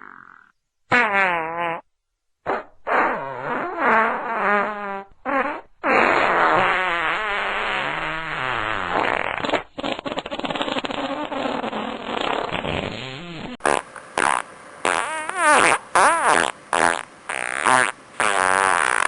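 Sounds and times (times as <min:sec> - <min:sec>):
farts: 0:00.0 - 0:19.0.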